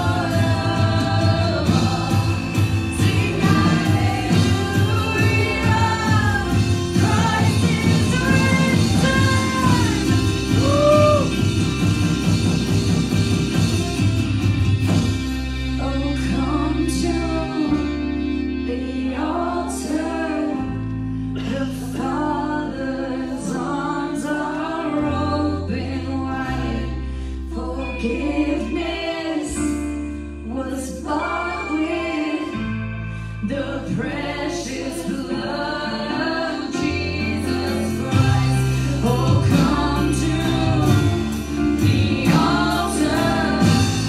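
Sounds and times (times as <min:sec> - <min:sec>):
women singing: 0:00.0 - 0:11.5, 0:15.8 - 0:44.0
worship band playing: 0:00.0 - 0:44.0.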